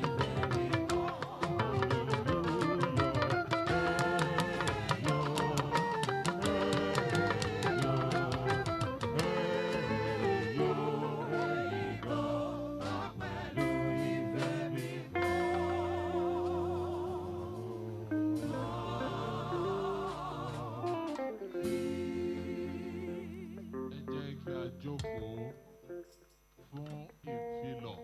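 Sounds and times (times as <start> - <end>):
person singing with vibrato: 0.0 - 24.3
bass accompaniment: 0.0 - 25.3
guitar: 0.0 - 28.0.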